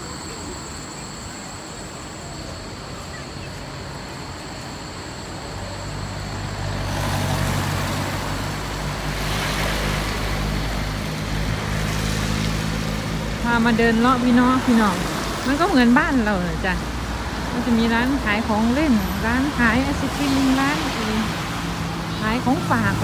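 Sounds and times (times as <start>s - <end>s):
traffic noise rushing: 0.0s - 23.0s
vehicle engine humming: 0.0s - 23.0s.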